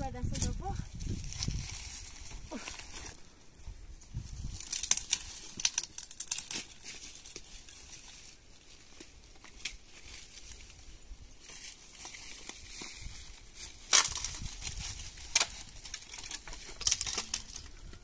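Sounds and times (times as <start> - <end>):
crinkling and crackling: 0.0 - 18.0.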